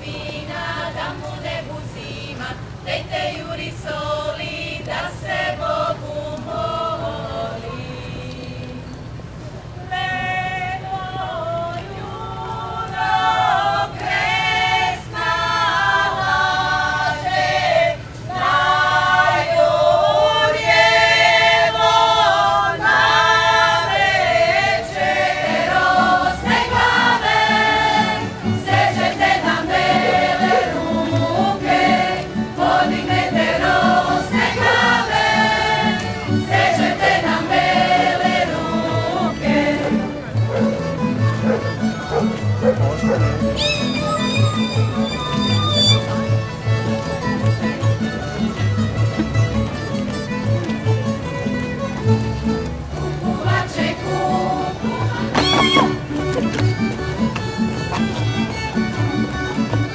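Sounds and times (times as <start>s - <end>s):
group singing folk song in chorus: 0.0s - 49.4s, 52.0s - 59.9s.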